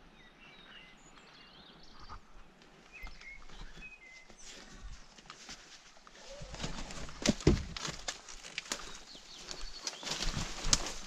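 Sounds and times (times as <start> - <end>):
faint birds chirping: 0.0 - 7.2, 8.1 - 11.0.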